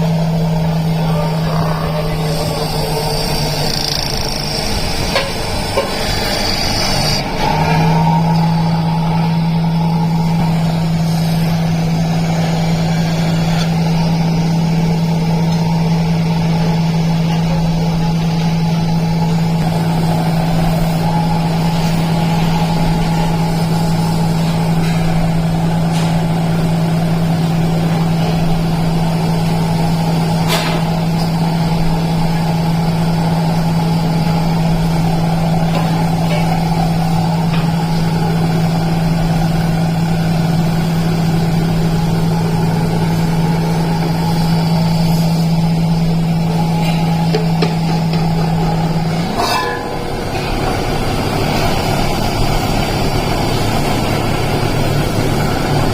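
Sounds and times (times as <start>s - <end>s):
machine drone: 0.0s - 55.9s.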